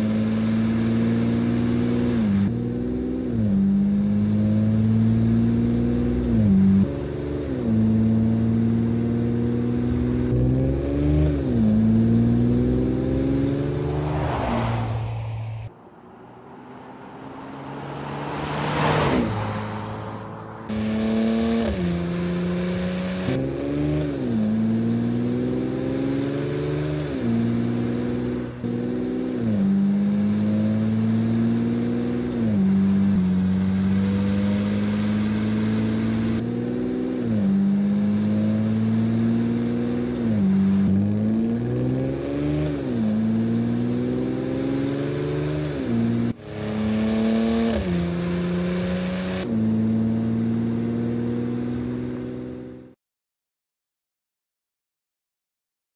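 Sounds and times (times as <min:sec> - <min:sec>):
car engine accelerating through gears: 0:00.0 - 0:53.0.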